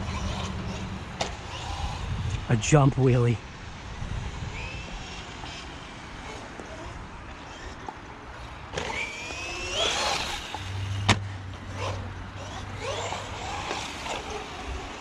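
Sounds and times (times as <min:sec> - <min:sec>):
rc car motor whining: 0:00.0 - 0:02.7, 0:04.2 - 0:15.0.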